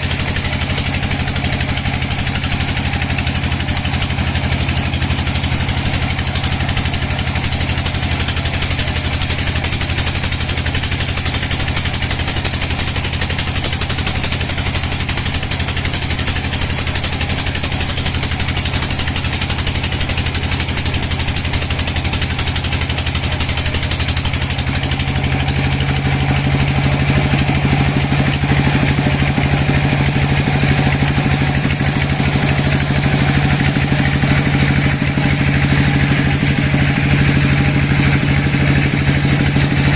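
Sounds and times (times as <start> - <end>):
sawmill engine hum: 0.0 - 39.9.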